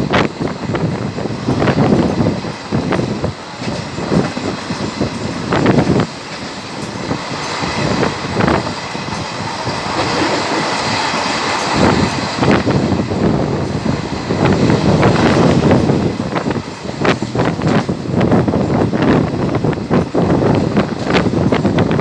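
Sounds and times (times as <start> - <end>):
train wagons rumbling: 0.0 - 22.0
wheels clattering over rail joints: 0.0 - 22.0.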